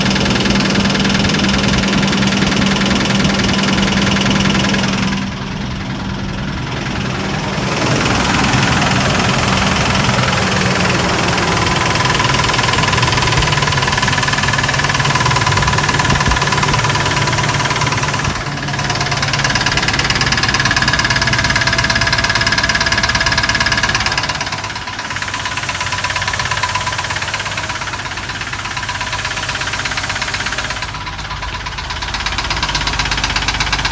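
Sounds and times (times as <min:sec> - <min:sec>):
engine running with knock: 0:00.0 - 0:33.9.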